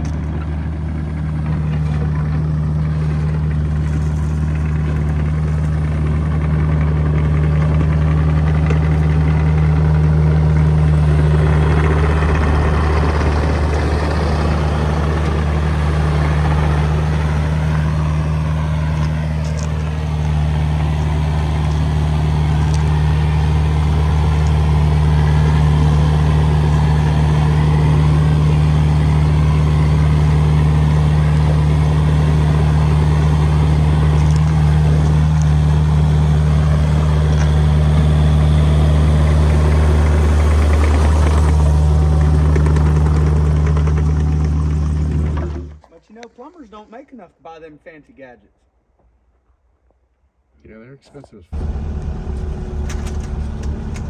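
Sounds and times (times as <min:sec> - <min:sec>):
engine running steadily: 0:00.0 - 0:45.8, 0:51.6 - 0:54.0.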